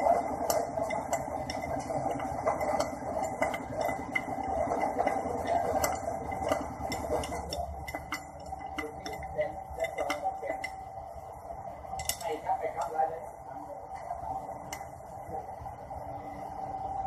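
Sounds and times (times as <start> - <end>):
machine running: 0.0 - 17.0.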